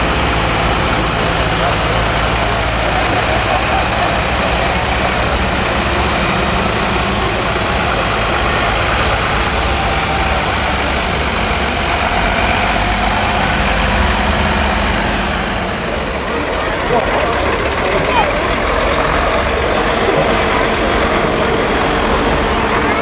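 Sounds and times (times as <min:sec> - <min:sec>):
heavy truck engines running: 0:00.0 - 0:23.0.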